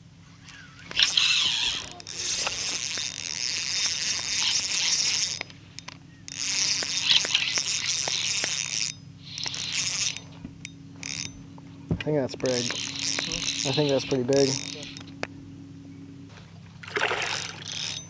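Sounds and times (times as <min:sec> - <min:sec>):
faint reel clicks: 0:00.4 - 0:11.4, 0:12.4 - 0:15.2, 0:17.3 - 0:18.0
spinning reel whirring: 0:00.5 - 0:11.4, 0:12.3 - 0:15.3, 0:16.9 - 0:18.0.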